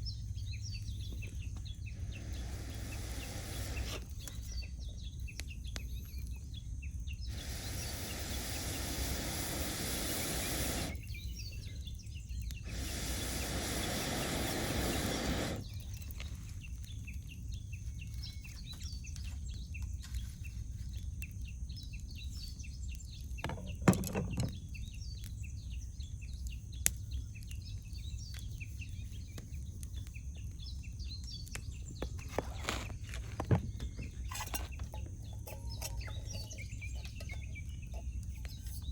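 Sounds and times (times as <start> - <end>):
birds calling: 0.0 - 38.9
campfire crackling and popping: 0.8 - 38.9.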